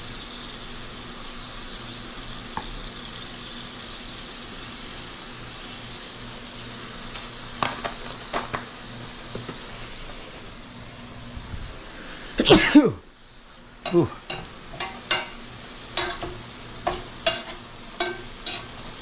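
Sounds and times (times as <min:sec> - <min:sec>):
shrimp sizzling in a pan: 0:00.0 - 0:11.1, 0:13.1 - 0:19.0.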